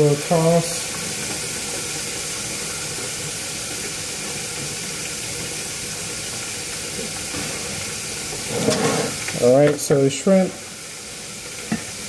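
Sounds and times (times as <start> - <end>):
oil sizzling in deep fryer: 0.0 - 12.0.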